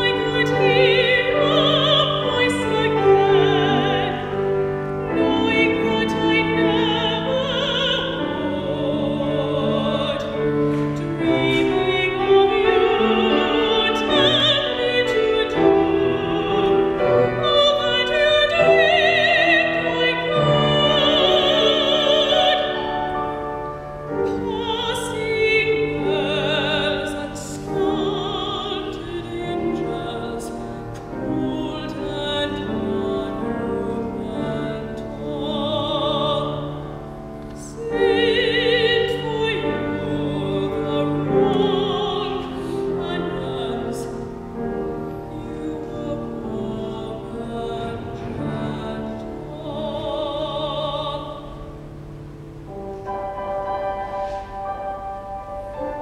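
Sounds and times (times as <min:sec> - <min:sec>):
instrumental accompaniment: 0:00.0 - 0:56.0
woman singing operatic soprano: 0:00.0 - 0:56.0.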